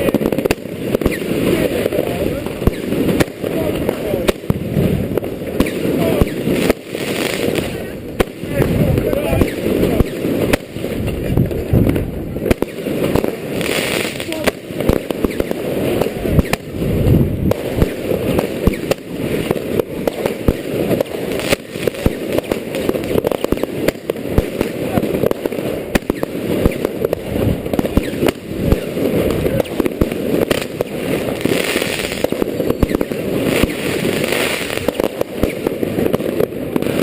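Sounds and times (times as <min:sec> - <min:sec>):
fireworks cracking and popping: 0:00.0 - 0:37.0.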